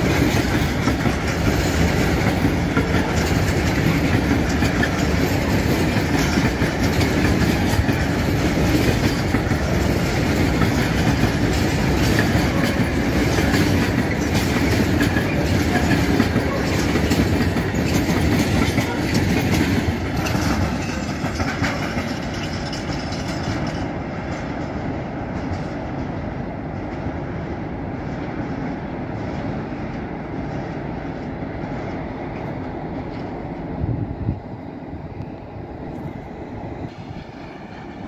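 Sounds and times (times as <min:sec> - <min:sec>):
freight train wheels clattering: 0:00.0 - 0:33.7.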